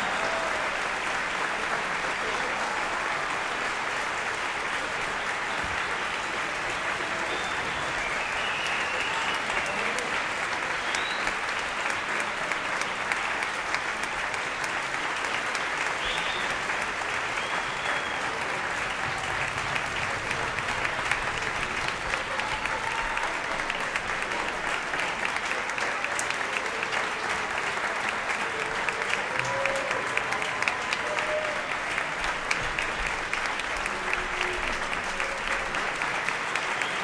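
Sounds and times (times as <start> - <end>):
audience clapping: 0.0 - 37.0.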